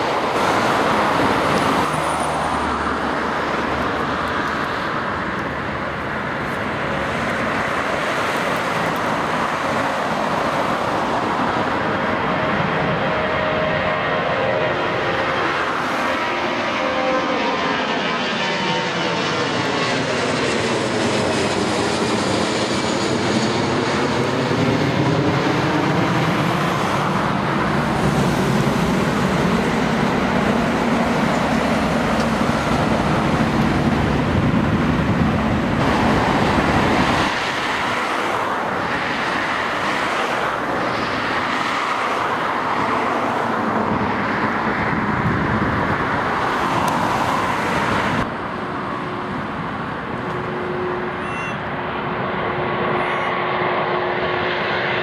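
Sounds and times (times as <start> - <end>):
jet airliner passing close by: 0.0 - 55.0.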